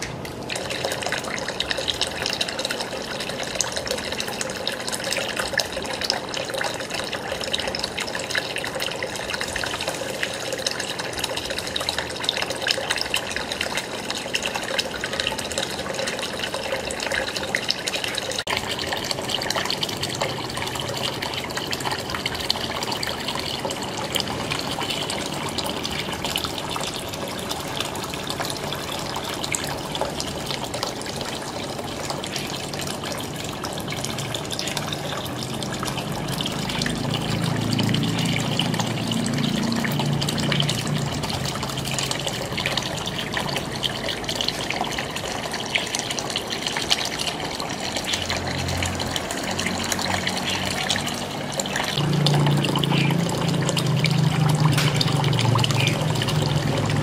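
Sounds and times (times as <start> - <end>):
fountain water trickling: 0.0 - 57.0.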